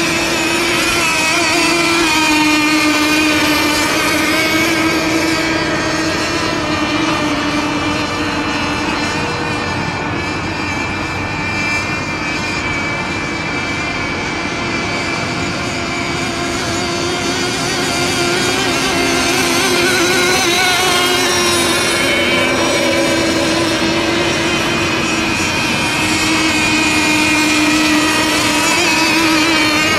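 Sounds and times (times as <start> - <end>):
rc boat motors whining: 0.0 - 29.9.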